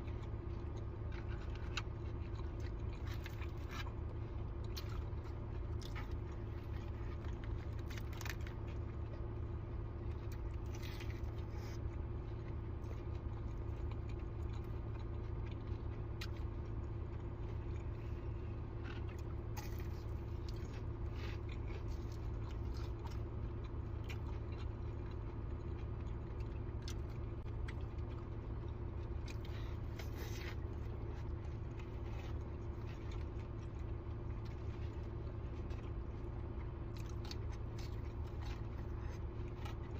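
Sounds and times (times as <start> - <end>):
person chewing and biting: 0.0 - 39.9
steady low hum: 0.0 - 39.9.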